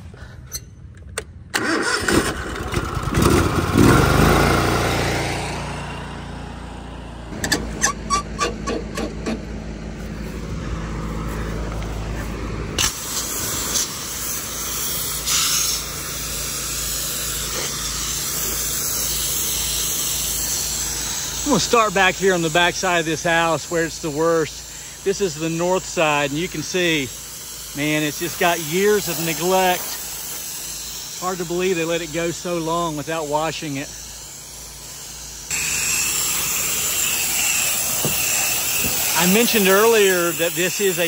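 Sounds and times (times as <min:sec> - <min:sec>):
pressure washer engine running: 0:01.6 - 0:41.0.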